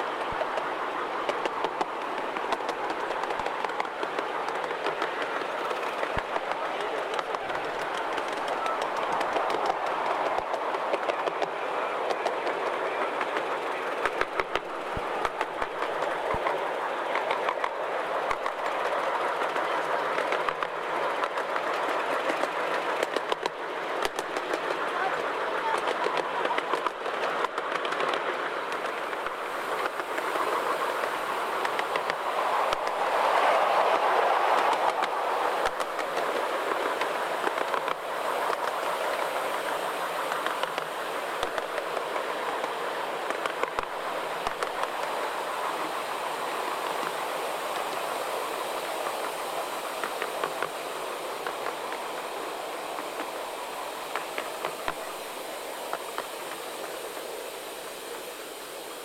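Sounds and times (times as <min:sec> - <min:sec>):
sharp clicks at rail joints: 0:00.0 - 0:45.2, 0:48.8 - 0:52.2, 0:52.9 - 0:57.0
train wheels rolling on rails: 0:00.0 - 0:59.0.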